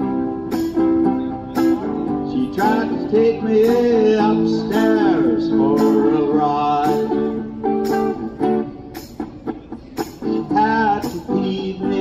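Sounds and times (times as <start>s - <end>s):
electric guitar chords: 0.0s - 12.0s
sliding bending guitar notes: 0.0s - 12.0s.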